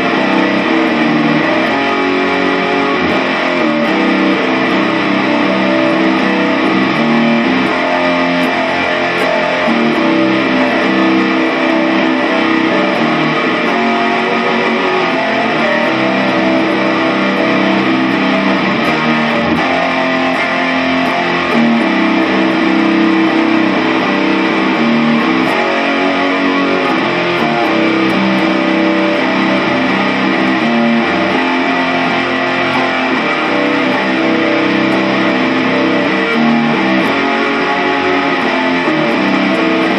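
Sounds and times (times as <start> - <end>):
guitar music: 0.0 - 39.9.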